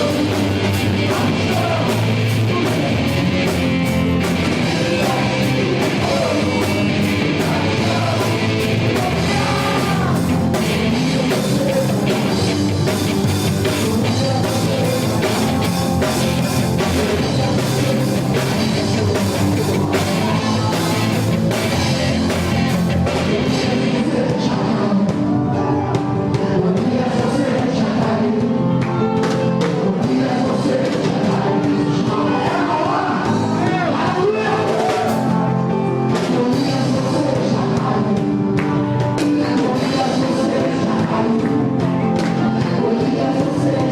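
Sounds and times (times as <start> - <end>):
gospel rock band playing: 0.0 - 43.9
person singing: 0.0 - 43.9.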